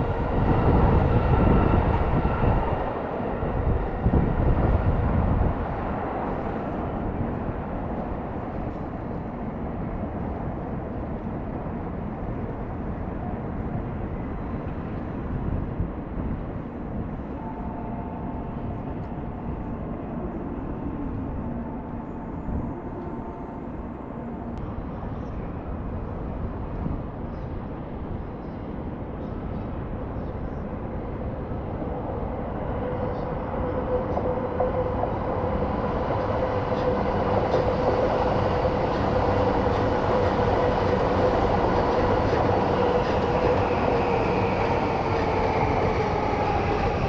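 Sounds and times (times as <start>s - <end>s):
hum of city traffic: 0.0s - 47.0s.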